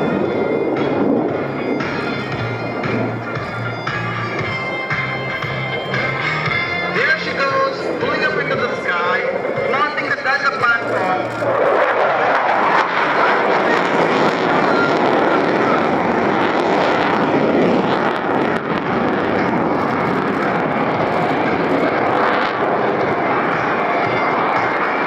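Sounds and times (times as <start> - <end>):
jet engine rush: 0.0 - 25.0.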